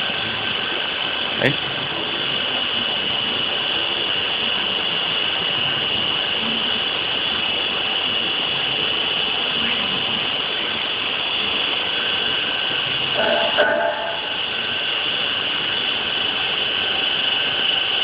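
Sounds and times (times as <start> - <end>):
high-pitched machine whine: 0.0 - 18.0
rushing machine noise: 0.0 - 18.0.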